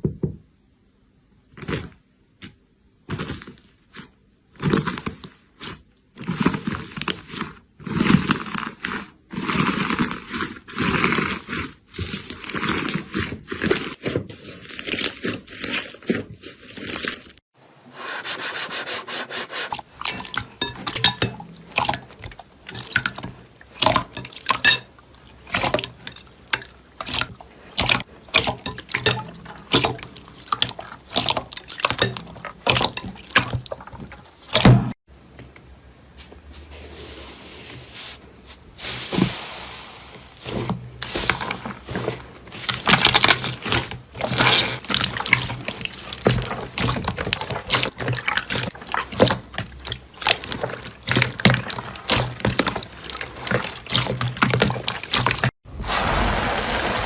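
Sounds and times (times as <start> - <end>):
slime squelching: 1.6 - 17.4, 19.5 - 35.0, 37.2 - 57.0.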